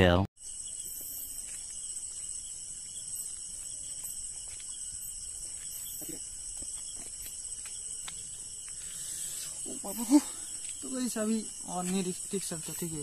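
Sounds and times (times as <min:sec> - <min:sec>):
crickets chirring: 0:00.4 - 0:13.0.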